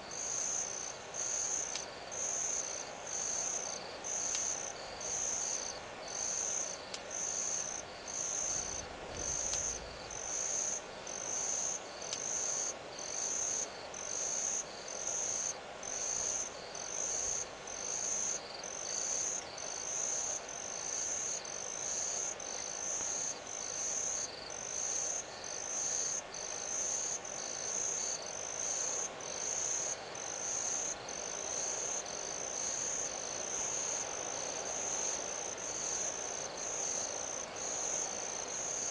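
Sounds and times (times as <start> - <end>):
hiss of night insects: 0.0 - 38.9
insects chirping in pulses: 0.0 - 38.9.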